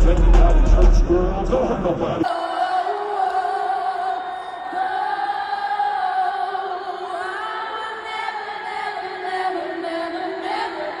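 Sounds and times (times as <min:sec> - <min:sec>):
crowd singing in unison: 0:00.0 - 0:11.0.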